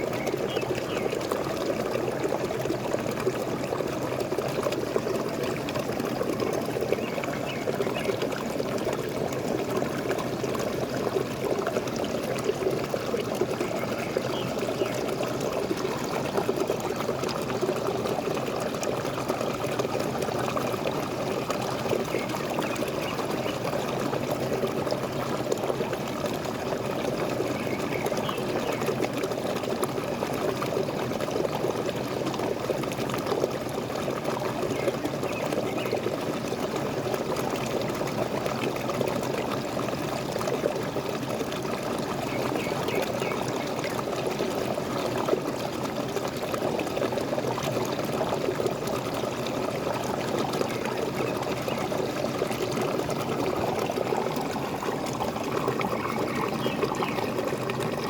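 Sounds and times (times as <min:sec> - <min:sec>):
waterfall pouring: 0:00.0 - 0:58.0.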